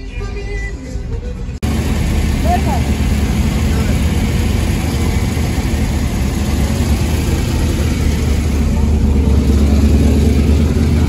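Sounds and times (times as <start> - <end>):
truck engine idling: 1.1 - 11.0.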